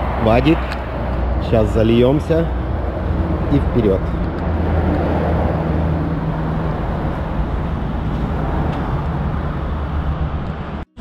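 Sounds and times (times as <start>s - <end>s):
noisy wash: 0.0s - 10.9s.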